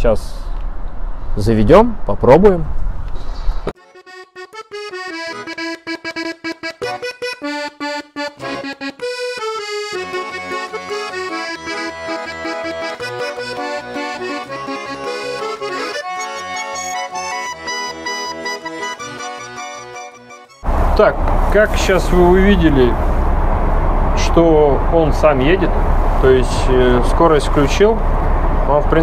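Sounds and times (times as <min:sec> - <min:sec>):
accordion music: 0:03.8 - 0:23.0, 0:24.0 - 0:29.0
bass notes beat: 0:04.4 - 0:29.0.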